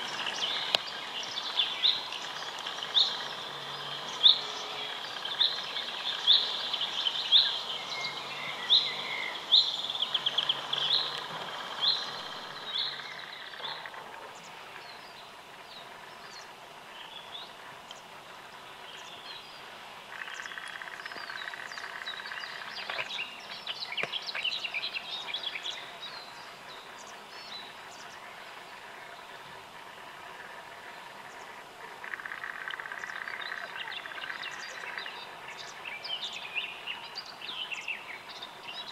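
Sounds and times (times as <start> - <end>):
background hiss: 0.0 - 38.9
birds calling: 0.0 - 38.9.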